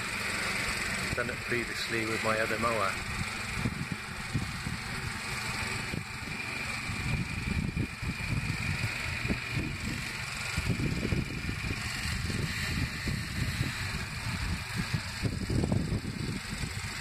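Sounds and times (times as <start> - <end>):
distant lawnmower engine running: 0.0 - 17.0.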